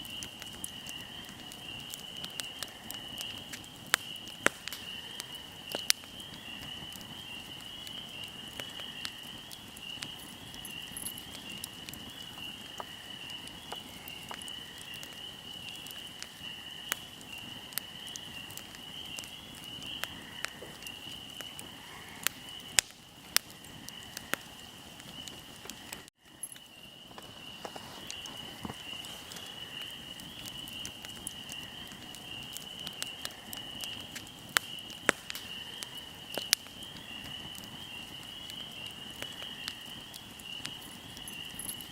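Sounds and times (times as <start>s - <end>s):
insect trill: 0.0s - 41.9s
wood fire crackling: 0.0s - 41.9s.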